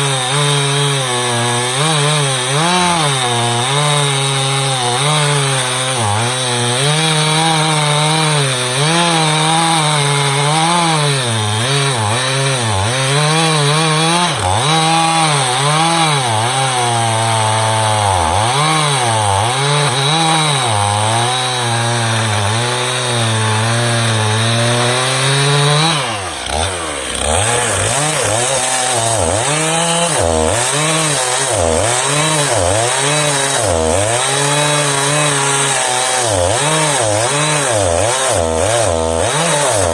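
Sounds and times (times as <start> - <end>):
chainsaw cutting wood at high revs: 0.0 - 39.9.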